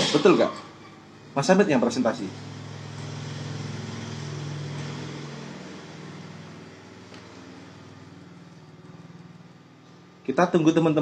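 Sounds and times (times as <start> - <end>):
vehicle engine humming: 0.0 - 10.3.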